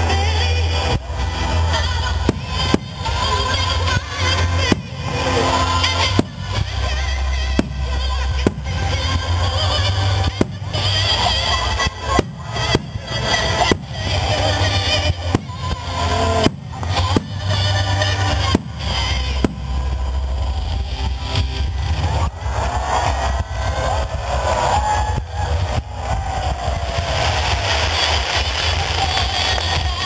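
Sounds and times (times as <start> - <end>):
music with steady bass line: 0.0 - 27.2
fireworks bursting with bangs: 0.0 - 30.0.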